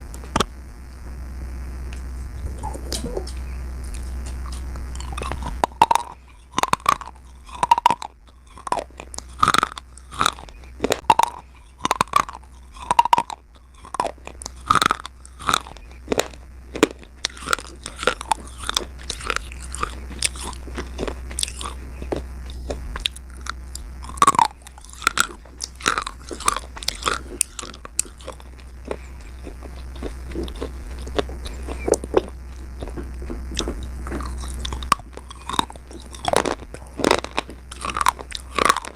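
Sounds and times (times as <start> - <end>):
steady low hum: 0.0 - 38.9
person crunching slate pencils: 2.9 - 38.9.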